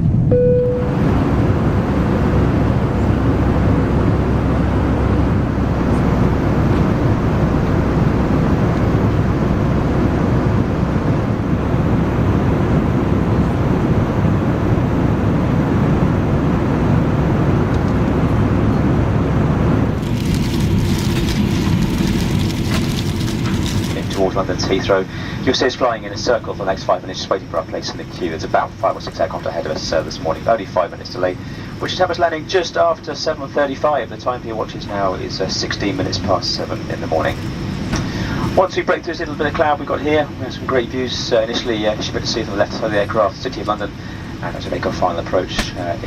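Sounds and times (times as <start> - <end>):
aircraft cabin engine rush: 0.0 - 46.0.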